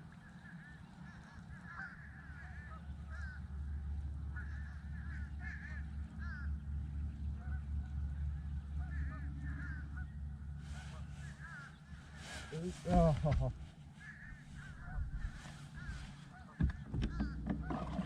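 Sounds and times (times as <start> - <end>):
geese honking: 0.3 - 18.0
low rumble: 2.9 - 18.0.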